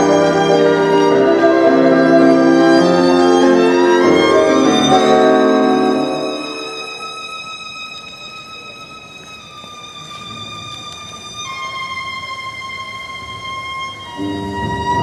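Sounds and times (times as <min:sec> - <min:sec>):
waltz music: 0:00.0 - 0:15.0.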